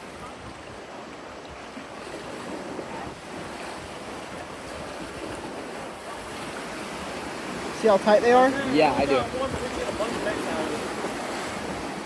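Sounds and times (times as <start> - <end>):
surf and moving water: 0.0 - 12.0
wind buffeting microphone: 0.0 - 12.0.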